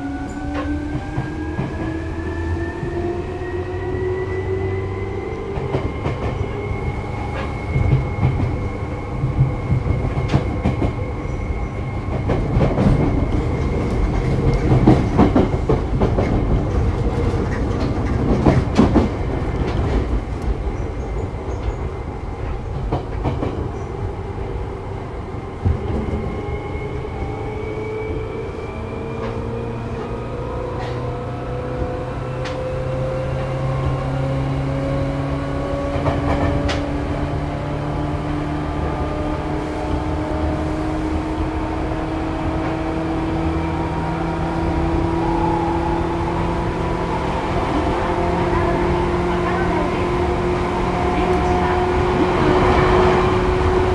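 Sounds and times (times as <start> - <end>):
train rumbling: 0.0 - 53.9.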